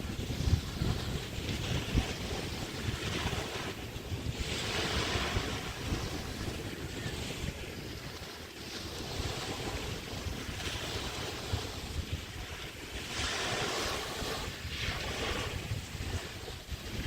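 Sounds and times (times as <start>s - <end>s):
small waves washing onto beach: 0.0s - 17.0s
wind buffeting microphone: 0.0s - 17.0s.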